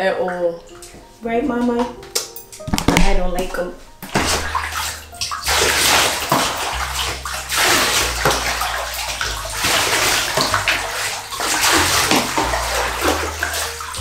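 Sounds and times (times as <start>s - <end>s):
water splashing into tub: 1.8s - 14.0s.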